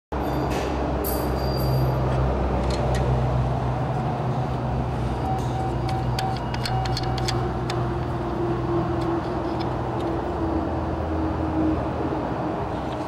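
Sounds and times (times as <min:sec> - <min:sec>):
low mechanical hum: 0:02.2 - 0:13.0.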